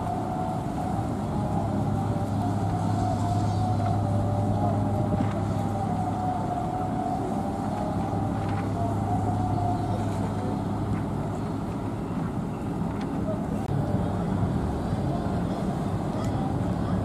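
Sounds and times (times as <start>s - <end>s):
ship diesel engines droning: 0.0s - 17.0s
wavering higher hum: 0.0s - 17.0s.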